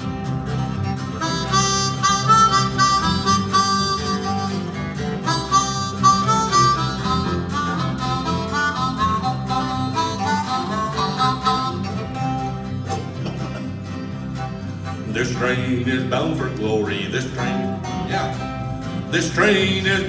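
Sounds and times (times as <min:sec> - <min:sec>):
acoustic guitar strumming: 0:00.0 - 0:20.0
harmonica melody: 0:00.0 - 0:20.0.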